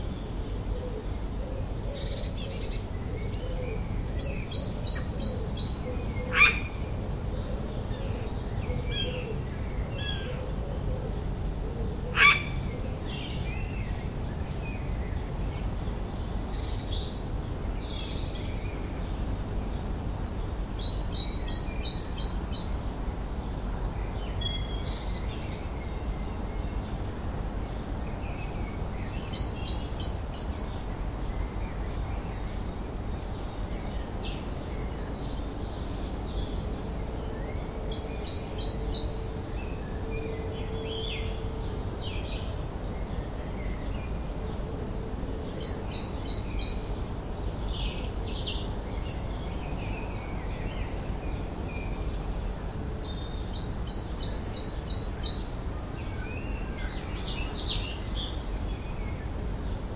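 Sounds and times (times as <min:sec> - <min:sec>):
birds singing: 0:00.0 - 0:19.2, 0:27.7 - 0:59.9.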